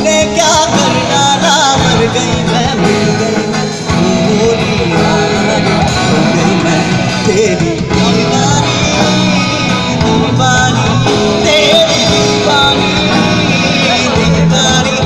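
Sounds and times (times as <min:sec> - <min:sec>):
drum kit: 0:00.0 - 0:15.0
electric guitars: 0:00.0 - 0:15.0
keyboard: 0:00.0 - 0:15.0
person singing: 0:00.0 - 0:15.0.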